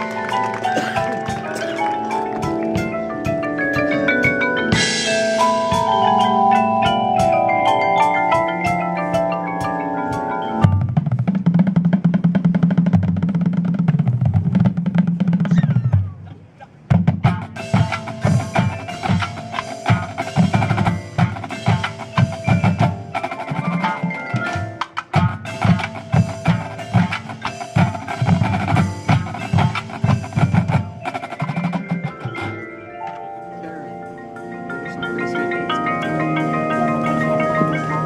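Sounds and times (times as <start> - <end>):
mallet keyboards playing: 0.0 - 13.6, 16.8 - 38.0
fast rhythmic drumming: 0.0 - 32.7, 33.8 - 38.0.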